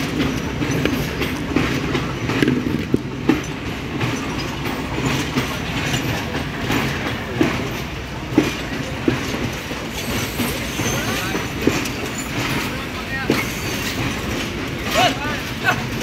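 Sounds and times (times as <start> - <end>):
train coaches rumbling past: 0.0 - 16.0
wheel clacks over rail joints: 0.0 - 16.0.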